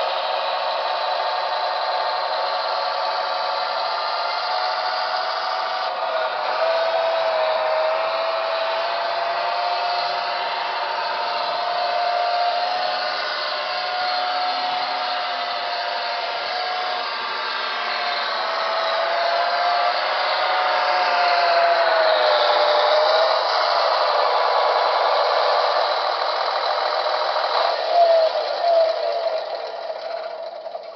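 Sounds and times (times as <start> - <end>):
high motor whine: 0.0 - 30.9
model train whirring: 0.0 - 30.9.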